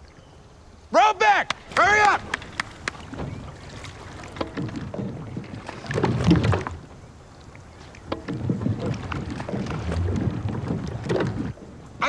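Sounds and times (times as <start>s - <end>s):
oars splashing water: 0.0s - 12.0s
oars knocking: 1.4s - 12.0s.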